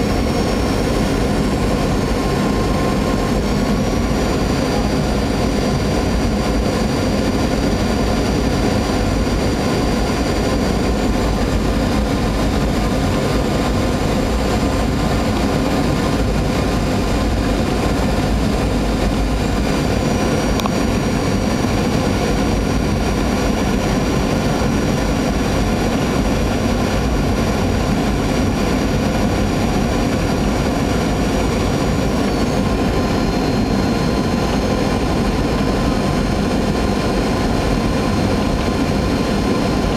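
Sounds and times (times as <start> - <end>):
jet engines and rushing air: 0.0 - 39.9.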